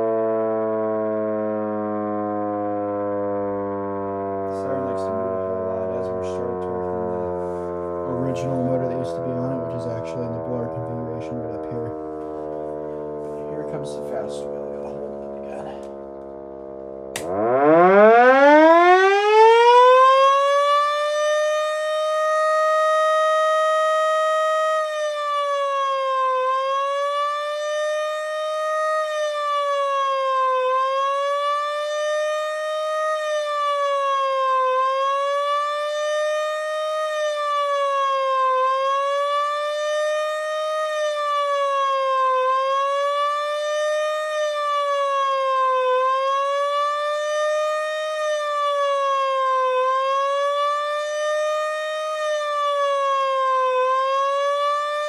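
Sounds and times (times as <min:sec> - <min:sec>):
mechanical siren wailing: 0:00.0 - 0:55.0.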